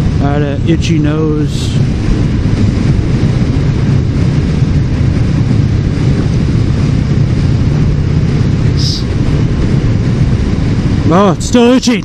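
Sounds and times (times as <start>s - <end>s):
motorcycle engine running: 0.0s - 11.3s
wind noise: 0.0s - 12.0s.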